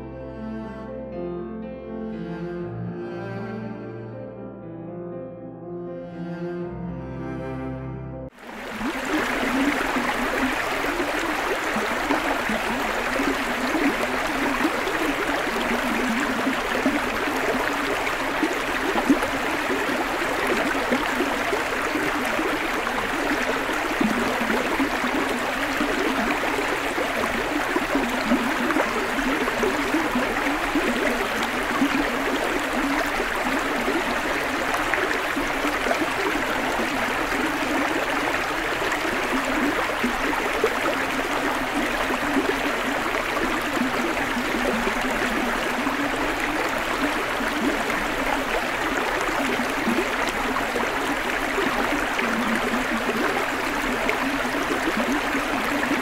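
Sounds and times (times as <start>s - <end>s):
stream flowing over stones: 8.3s - 56.0s.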